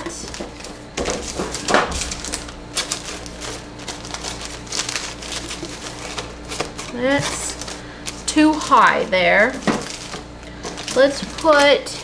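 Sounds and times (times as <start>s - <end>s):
paper and cardboard rustling: 0.0s - 12.0s.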